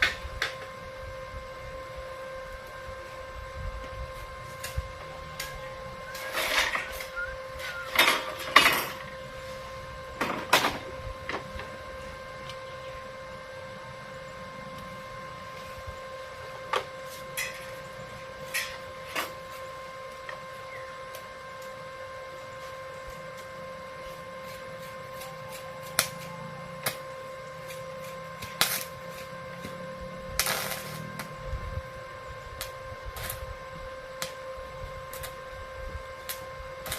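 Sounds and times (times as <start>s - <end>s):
electrical hum: 0.0s - 36.9s.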